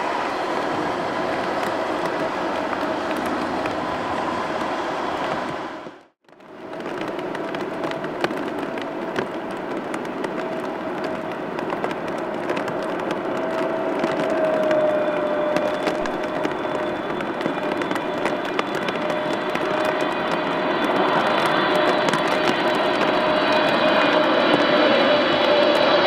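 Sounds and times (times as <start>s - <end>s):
jet engine drone with whine: 0.0s - 26.0s.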